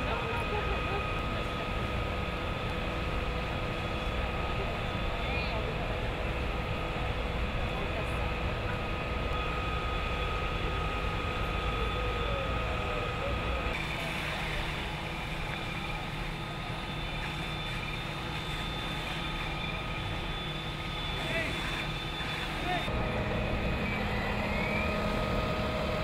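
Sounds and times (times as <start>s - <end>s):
diesel engines and pumps rumbling: 0.0s - 26.0s
steady whining tones: 0.0s - 26.0s.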